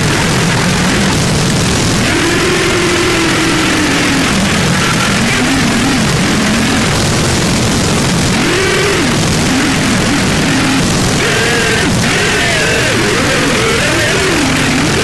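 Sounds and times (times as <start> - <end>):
distorted noise music: 0.0 - 15.0.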